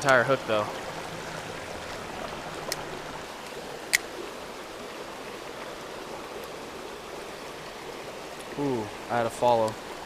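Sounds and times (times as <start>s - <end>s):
creek water flowing: 0.0s - 10.0s.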